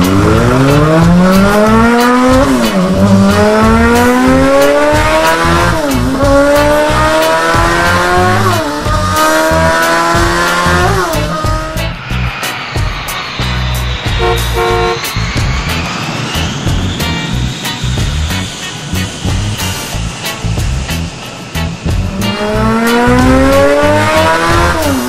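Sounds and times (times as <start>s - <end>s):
sports car engine accelerating: 0.0s - 25.0s.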